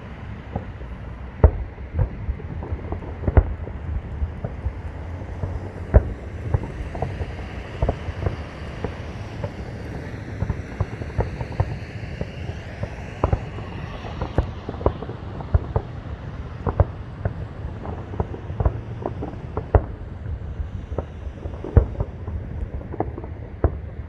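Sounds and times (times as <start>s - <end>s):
distant fireworks booming: 0.0s - 24.0s
traffic noise: 0.0s - 24.0s
wind: 0.0s - 24.0s.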